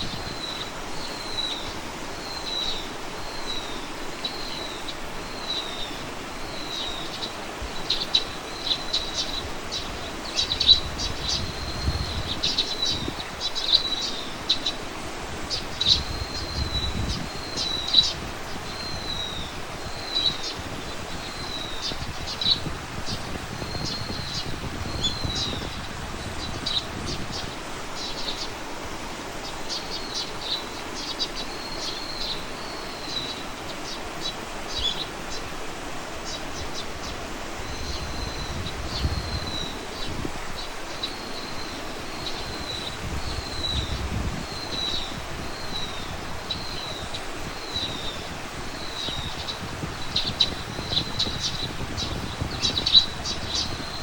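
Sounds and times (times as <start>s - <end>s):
background hiss: 0.0s - 54.0s.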